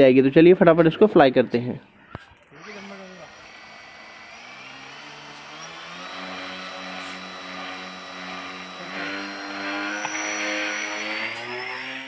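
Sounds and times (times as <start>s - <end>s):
propeller motors revving: 2.2s - 12.0s.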